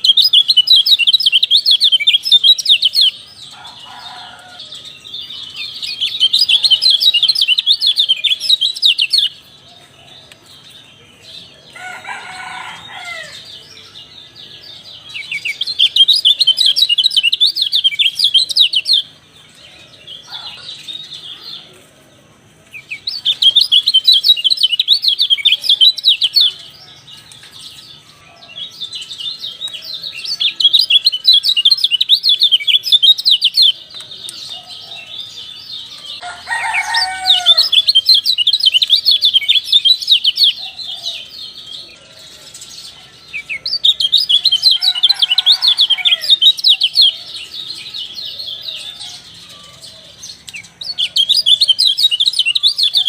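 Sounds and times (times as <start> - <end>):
songbird chattering song: 0.0 - 53.0.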